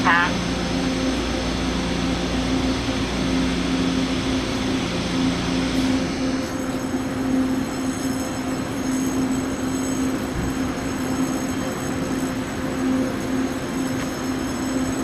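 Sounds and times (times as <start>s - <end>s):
train humming with low drone: 0.0s - 15.0s.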